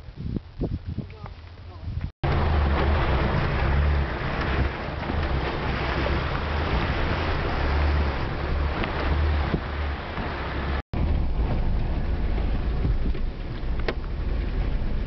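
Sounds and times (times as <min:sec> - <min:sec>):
low engine rumble: 0:01.1 - 0:15.0
water rushing and splashing: 0:02.2 - 0:15.0.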